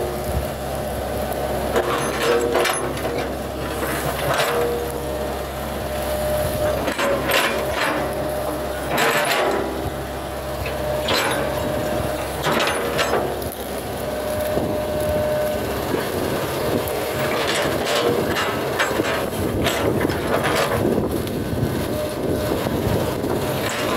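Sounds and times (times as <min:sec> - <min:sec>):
excavator diesel engine: 0:00.0 - 0:23.9
thin steady whine: 0:00.0 - 0:23.9.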